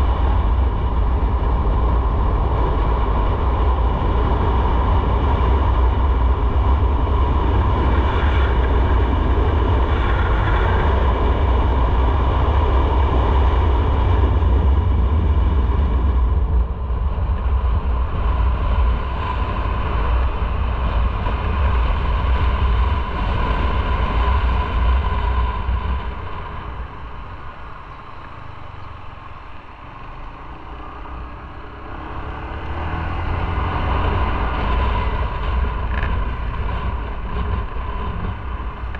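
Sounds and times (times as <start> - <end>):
motorcycle engine rumble: 0.0 - 38.9
road noise: 0.0 - 38.9.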